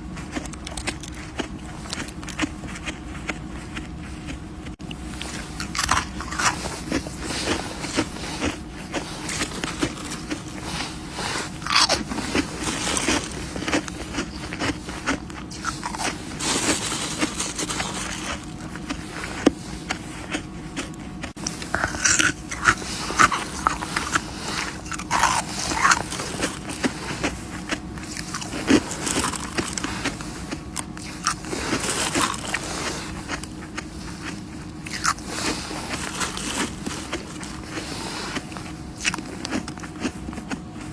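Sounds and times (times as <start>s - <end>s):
frost being chewed: 0.0s - 40.9s.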